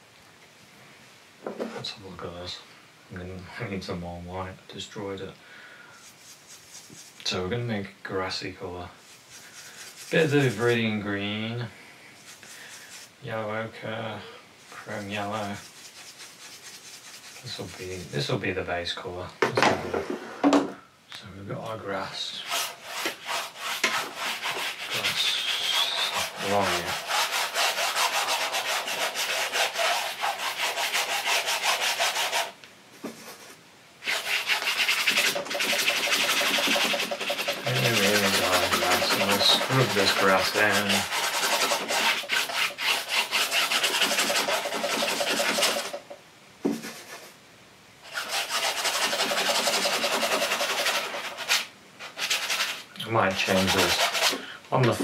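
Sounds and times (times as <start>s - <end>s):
brush scrubbing on canvas: 5.9s - 19.0s, 21.8s - 47.4s, 48.0s - 55.0s.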